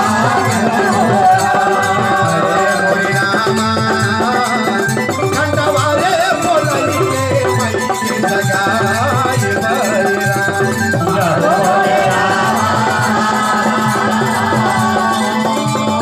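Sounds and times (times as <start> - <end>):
hand drum beat: 0.0 - 16.0
person singing: 0.0 - 16.0.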